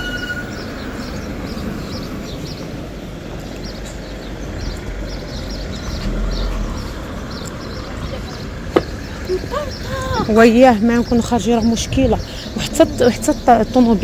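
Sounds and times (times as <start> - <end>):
road traffic rumble: 0.0 - 14.0
small birds chirping: 0.0 - 14.0.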